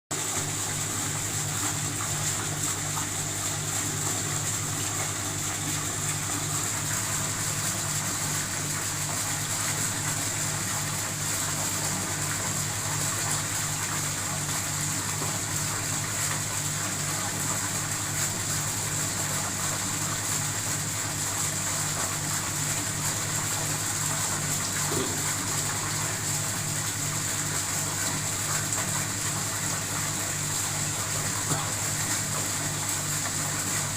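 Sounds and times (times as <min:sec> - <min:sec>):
water falling and splashing: 0:00.1 - 0:33.9.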